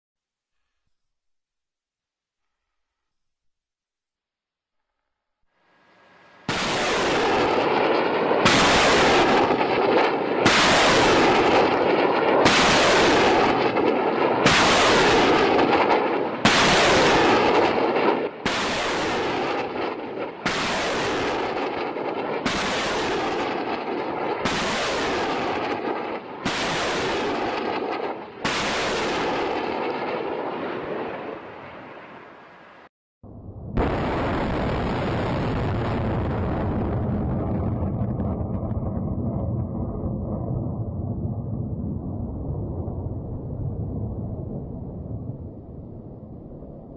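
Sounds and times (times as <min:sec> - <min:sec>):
rocket launch blasts: 0:05.7 - 0:32.5, 0:33.6 - 0:46.9.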